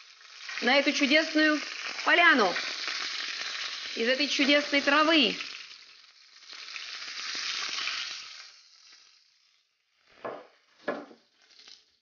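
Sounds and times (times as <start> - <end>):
quail sizzling in a grill pan: 0.0 - 10.0, 11.3 - 12.0.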